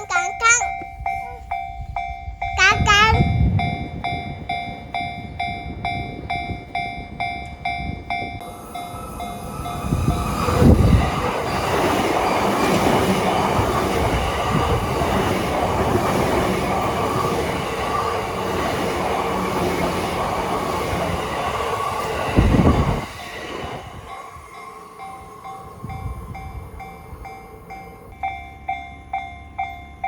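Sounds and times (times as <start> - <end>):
crossing bell ringing: 0.0 - 30.0
heavy low buffet of train: 0.0 - 30.0
train wheels rumbling on rails: 0.0 - 30.0.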